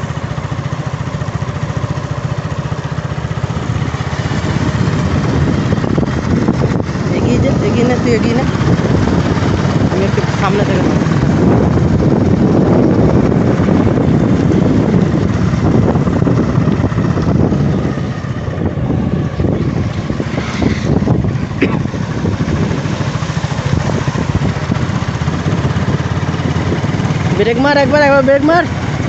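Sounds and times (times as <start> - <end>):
scooter engine rumble: 0.0 - 29.0
wind buffeting microphone: 0.0 - 29.0.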